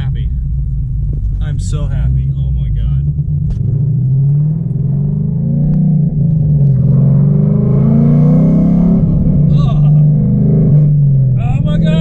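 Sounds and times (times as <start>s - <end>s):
deep car exhaust note: 0.0s - 12.0s.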